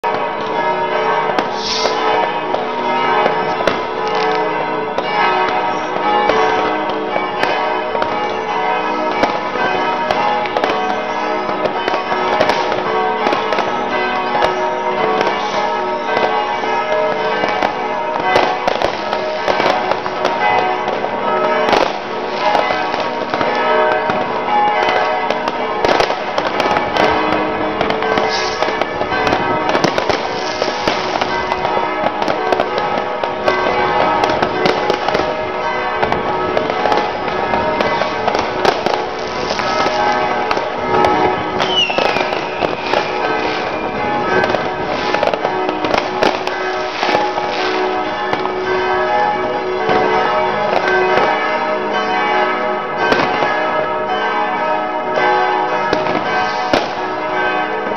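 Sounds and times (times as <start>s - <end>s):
church bells ringing: 0.0s - 57.9s
fireworks banging and crackling: 0.0s - 57.9s.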